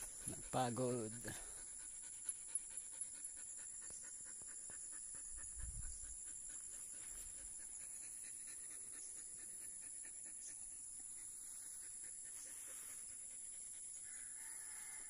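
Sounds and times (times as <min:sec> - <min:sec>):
dog panting rapidly: 0:00.0 - 0:14.0.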